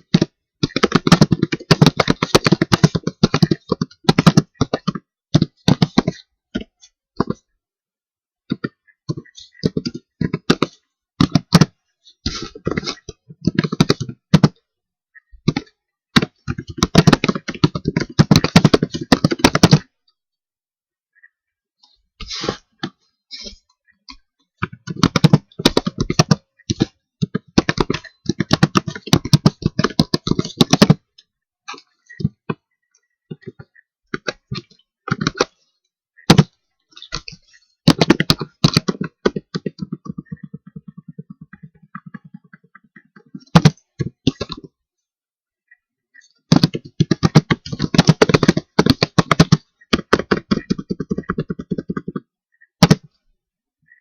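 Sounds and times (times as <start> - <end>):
keyboard typing: 0.0 - 7.5, 8.5 - 20.1, 22.3 - 44.8, 45.7 - 53.2.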